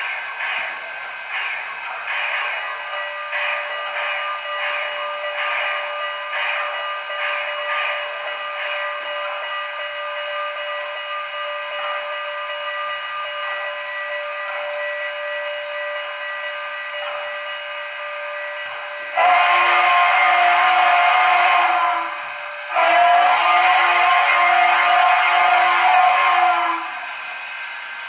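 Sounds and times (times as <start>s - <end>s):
faint steady tones: 0.0s - 22.8s
steam hiss: 0.0s - 28.0s
steam whistle chord: 2.1s - 28.0s.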